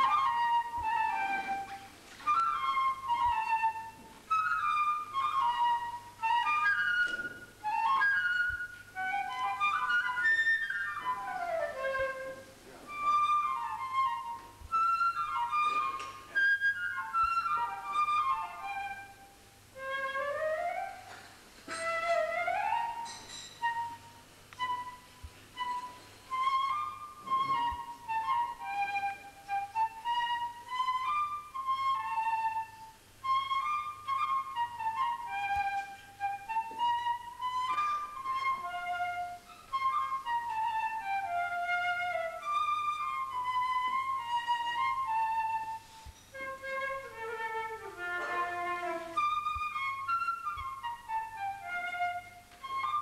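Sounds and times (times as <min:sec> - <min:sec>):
flute melody: 0:00.0 - 0:53.0.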